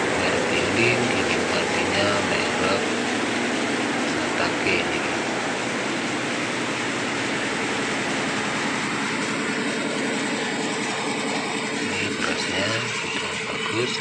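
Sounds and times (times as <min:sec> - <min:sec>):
milling machine clatter and rumble: 0:00.0 - 0:14.0.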